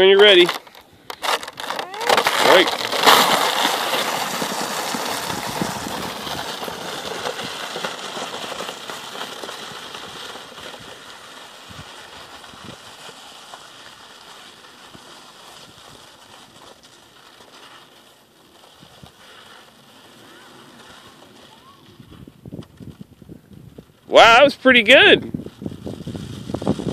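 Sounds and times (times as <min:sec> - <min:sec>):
sleds scraping over snow: 0:00.0 - 0:26.9.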